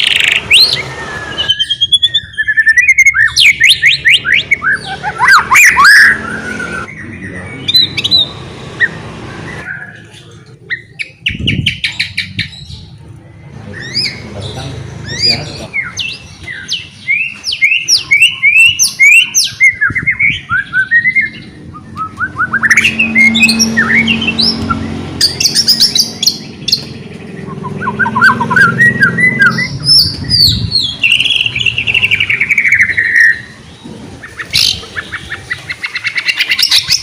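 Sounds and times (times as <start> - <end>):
bird singing whistled phrases: 0.0 - 12.3, 15.1 - 33.6.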